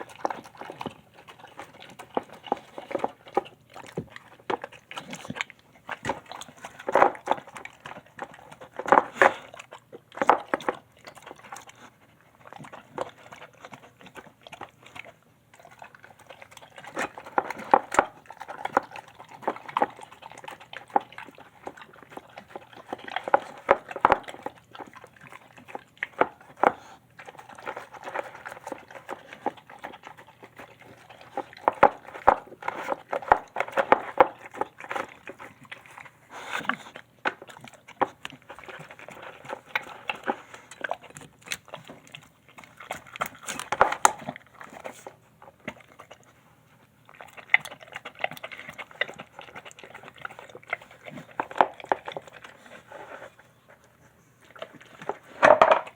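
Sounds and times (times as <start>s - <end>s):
dog chewing and lapping food: 0.0s - 55.9s.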